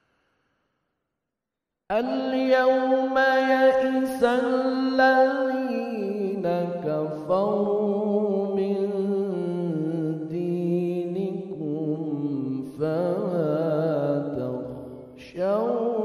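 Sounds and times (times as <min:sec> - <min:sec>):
man reciting melodically: 0:01.9 - 0:16.0.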